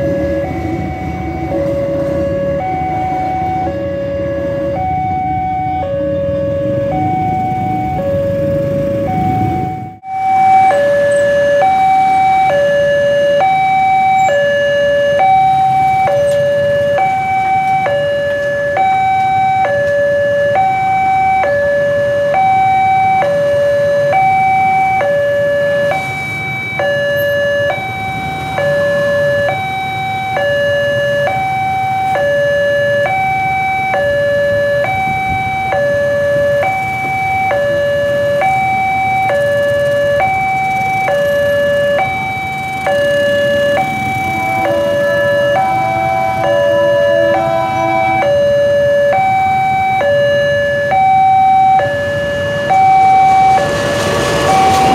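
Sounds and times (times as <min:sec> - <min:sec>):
faint road traffic: 0:00.0 - 0:54.9
two-tone crossing alarm: 0:00.0 - 0:54.9.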